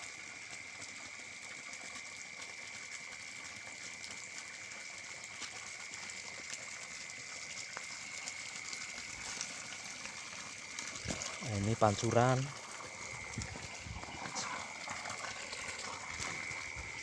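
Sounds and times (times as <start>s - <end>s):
water running from a spout: 0.0s - 17.0s.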